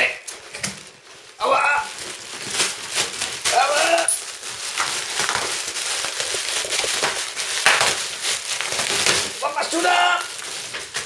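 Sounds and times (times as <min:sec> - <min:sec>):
plastic packaging film crinkling: 0:00.0 - 0:11.0.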